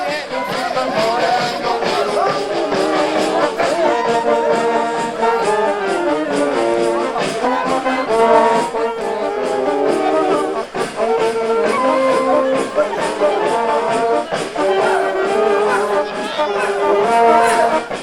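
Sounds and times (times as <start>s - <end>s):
brass band playing sustained notes: 0.0s - 18.0s.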